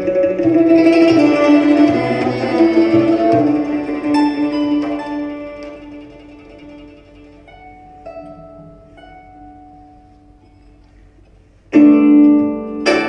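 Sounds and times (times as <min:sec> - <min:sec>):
folk ensemble playing: 0:00.0 - 0:13.0
plucked string notes: 0:00.0 - 0:13.0.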